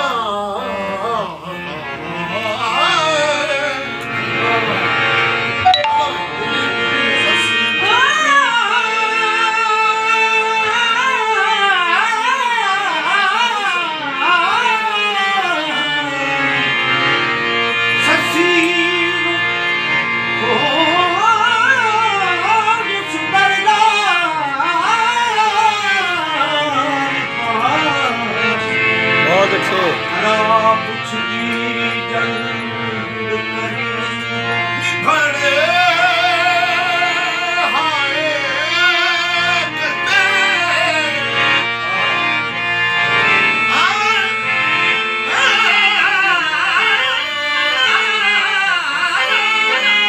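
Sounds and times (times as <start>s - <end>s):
man singing: 0.0s - 5.0s, 5.6s - 16.9s, 17.7s - 42.6s, 43.6s - 50.0s
harmonium: 0.0s - 50.0s
tabla: 2.4s - 42.1s, 43.4s - 50.0s.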